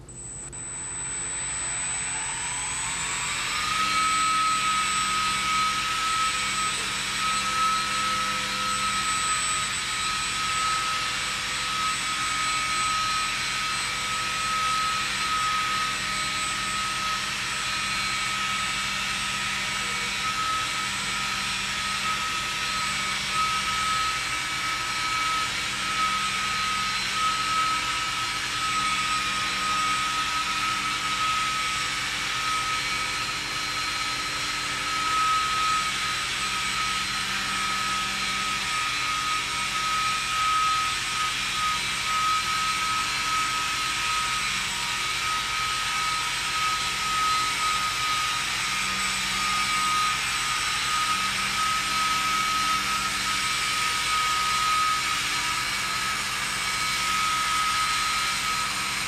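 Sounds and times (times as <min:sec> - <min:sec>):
model airplane motor whine: 0:00.0 - 0:59.0.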